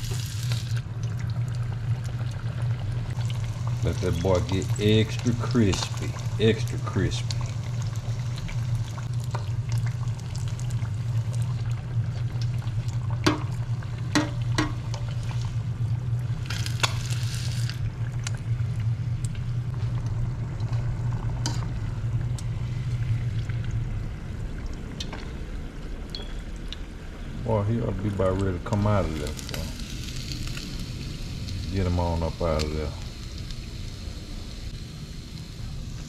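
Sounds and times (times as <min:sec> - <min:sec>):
low hum: 0:00.0 - 0:36.0
oil bubbling and sizzling: 0:00.0 - 0:36.0.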